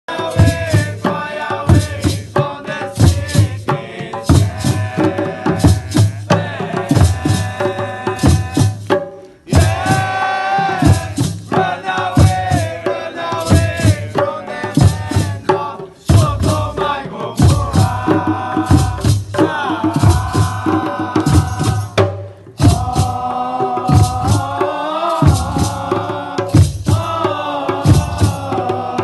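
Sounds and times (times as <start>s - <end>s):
group of voices chanting: 0.1s - 8.8s, 9.4s - 29.0s
hand drums beating: 0.1s - 29.0s.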